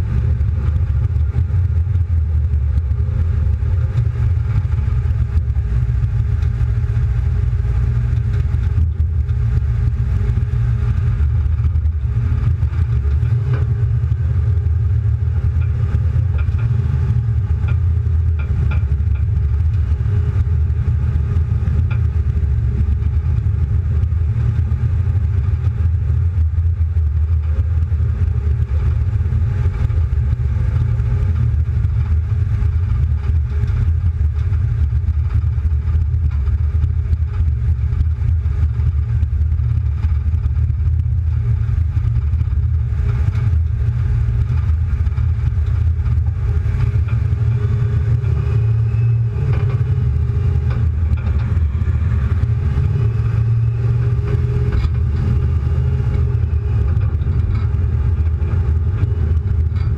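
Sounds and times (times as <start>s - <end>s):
car engine exhaust rumble: 0.0s - 59.9s.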